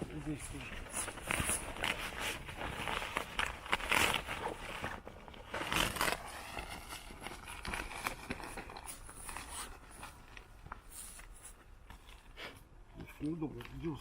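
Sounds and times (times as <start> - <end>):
rustling and crinkling handling noise: 0.0 - 14.0.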